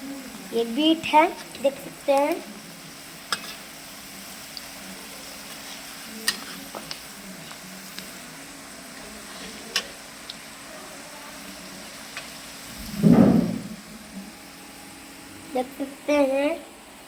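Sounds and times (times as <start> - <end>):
food sizzling in a pan: 0.0 - 13.0, 13.7 - 17.0.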